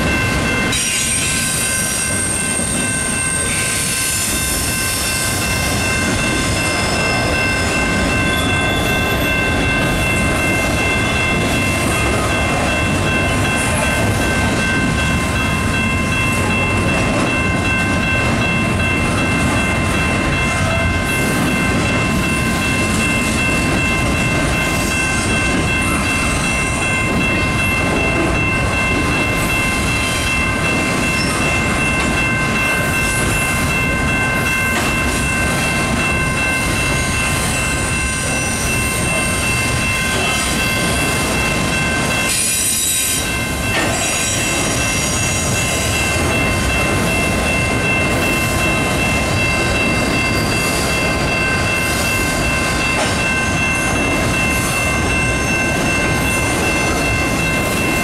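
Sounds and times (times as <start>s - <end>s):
freight train wheels rumbling: 0.0s - 58.0s
level-crossing bell ringing: 0.0s - 58.0s.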